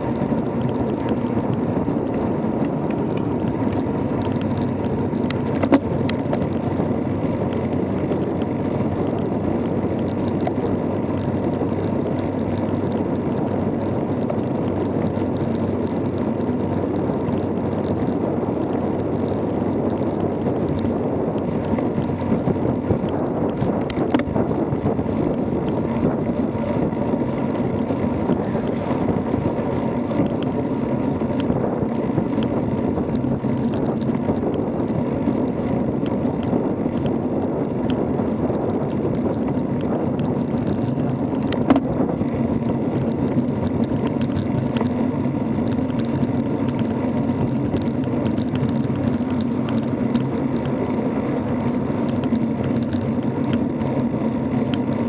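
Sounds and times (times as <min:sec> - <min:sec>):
bike tyres on asphalt: 0:00.0 - 0:55.0
wind rushing on microphone: 0:00.0 - 0:55.0.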